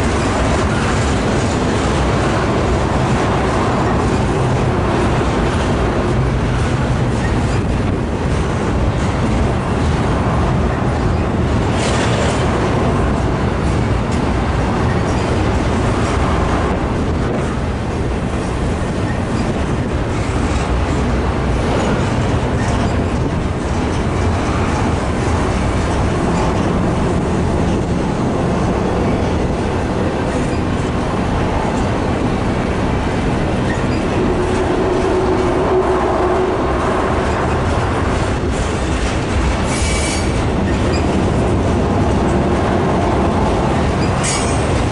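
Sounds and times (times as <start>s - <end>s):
freight train rolling past: 0.0s - 44.9s
steel wheels on rails: 0.0s - 44.9s.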